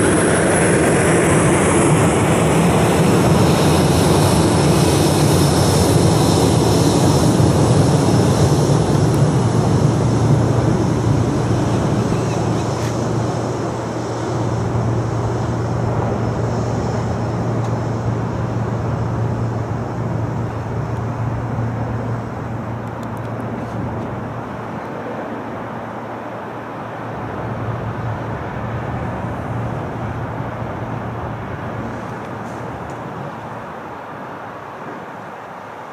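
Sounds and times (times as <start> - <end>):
jet engines rumbling: 0.0 - 35.9.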